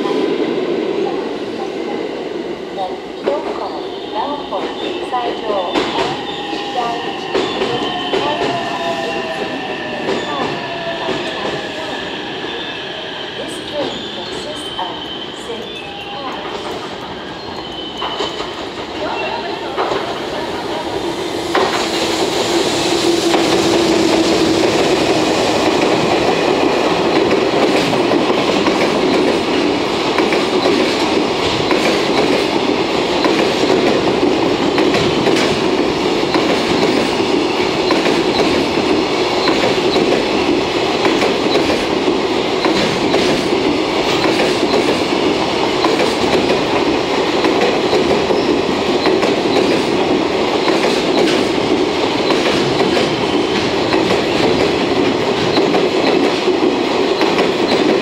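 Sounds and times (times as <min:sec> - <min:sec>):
locomotive hum: 0:00.0 - 0:55.8
train wheels clickety-clack: 0:03.2 - 0:12.6, 0:13.5 - 0:58.0.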